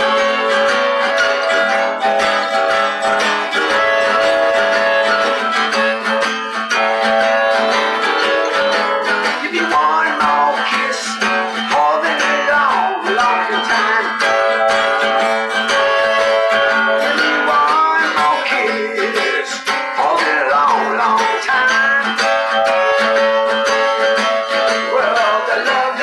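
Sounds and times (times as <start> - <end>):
blues harmonica: 0.0 - 26.0
strummed acoustic guitar: 0.0 - 26.0.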